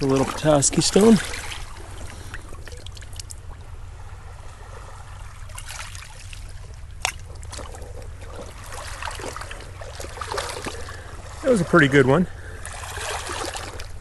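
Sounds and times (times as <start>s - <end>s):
waves lapping on pebbles: 0.0s - 14.0s.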